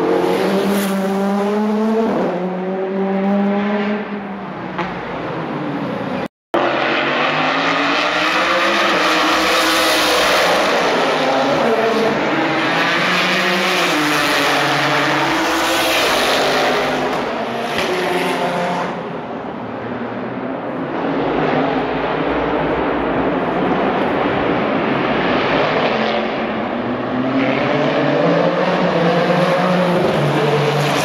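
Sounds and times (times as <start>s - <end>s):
race car engines passing: 0.0s - 31.0s.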